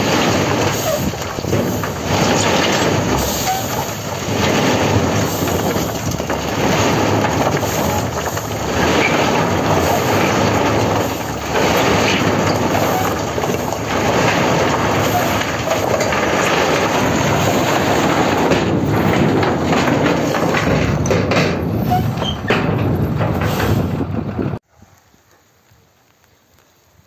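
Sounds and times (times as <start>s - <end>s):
rocks sliding and clattering: 0.0s - 24.6s
truck engine running: 0.0s - 24.6s.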